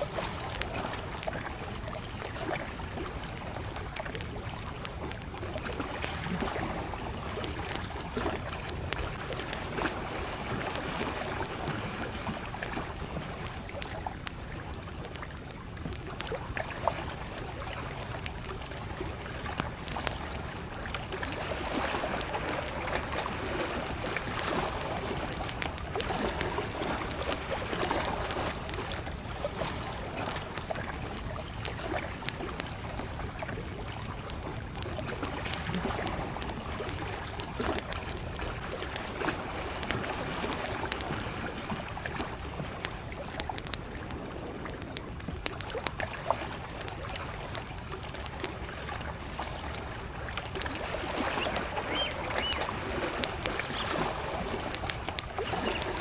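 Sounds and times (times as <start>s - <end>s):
campfire crackling and popping: 0.0s - 56.0s
lake waves lapping at shore: 0.0s - 56.0s.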